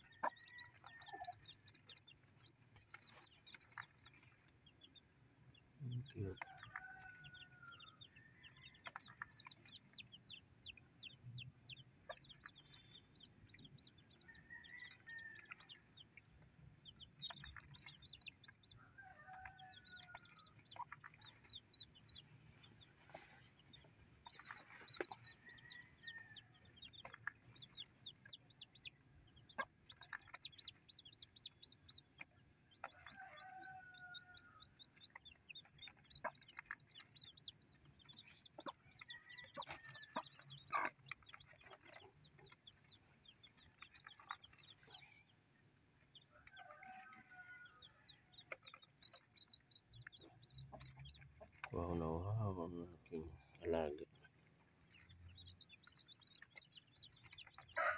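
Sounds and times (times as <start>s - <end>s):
hen clucking: 0.0s - 5.0s, 5.8s - 57.9s
chicks peeping: 0.0s - 57.9s.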